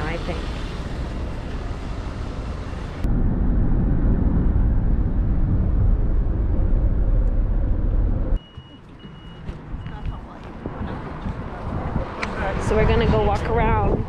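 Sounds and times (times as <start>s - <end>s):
outdoor street noise: 0.0s - 14.0s
road and engine rumble in van: 0.0s - 14.0s.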